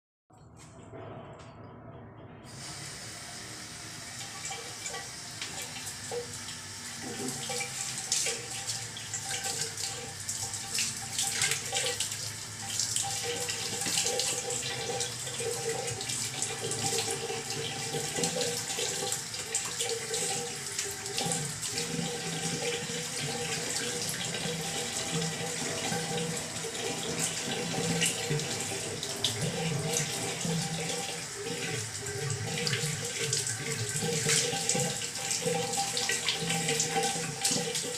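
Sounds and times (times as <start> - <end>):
shower water splashing: 2.5 - 37.9.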